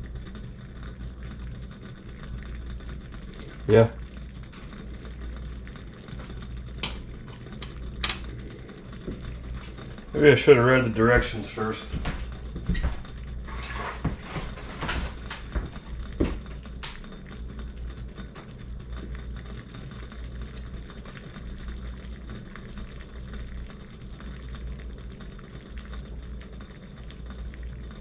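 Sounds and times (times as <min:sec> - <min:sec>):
water boiling in a pot: 0:00.0 - 0:28.0.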